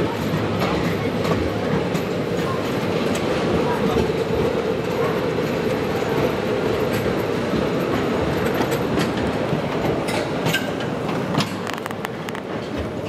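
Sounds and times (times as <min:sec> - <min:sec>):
train rumbling with wheel clatter: 0:00.0 - 0:13.0.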